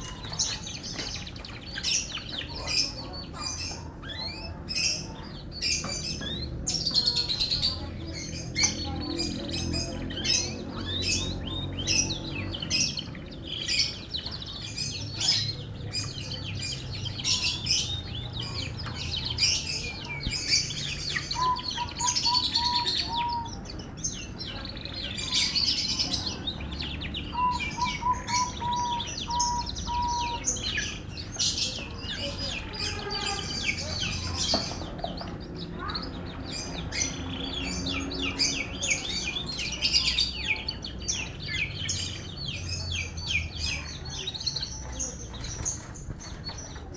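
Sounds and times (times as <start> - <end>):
canary singing trills and chirps: 0.0 - 46.9.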